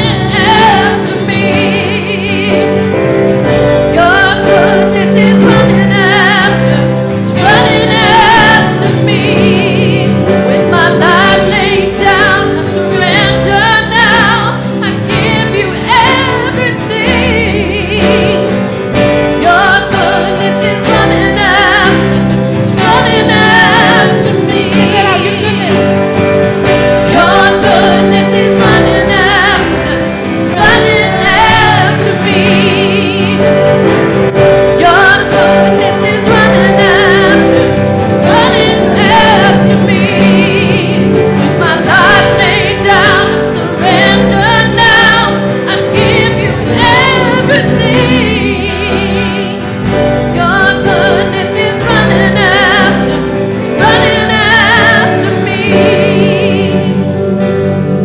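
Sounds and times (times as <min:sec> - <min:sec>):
band accompaniment: 0:00.0 - 0:58.0
singers with vibrato: 0:00.0 - 0:58.0.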